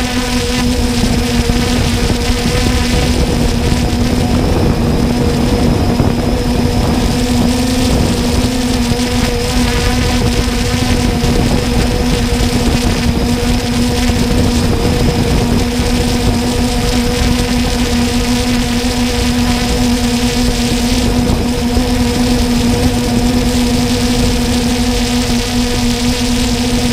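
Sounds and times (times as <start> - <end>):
continuous rushing noise: 0.0 - 26.9
drone motors whining: 0.0 - 26.9.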